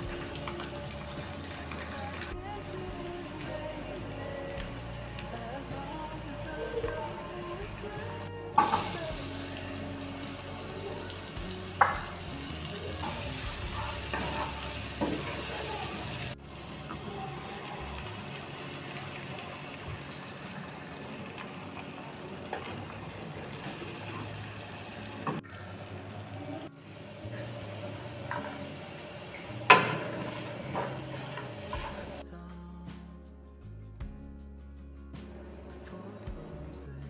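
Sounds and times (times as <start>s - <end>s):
sausages sizzling in oil: 0.0s - 26.0s, 26.8s - 32.2s
quiet cooking of egg: 0.0s - 32.2s
background music: 0.0s - 37.0s.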